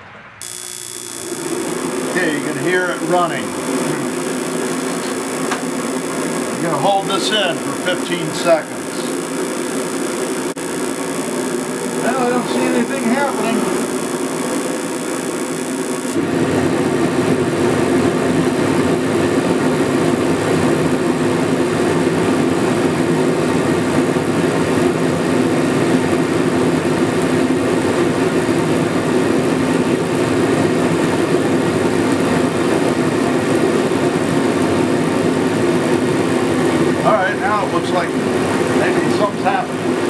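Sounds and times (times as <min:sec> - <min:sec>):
heater fan motor humming: 0:00.0 - 0:40.0.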